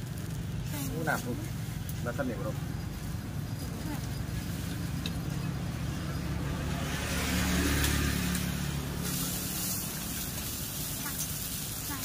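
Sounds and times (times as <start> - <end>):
vehicle driving past: 0.0 - 11.4.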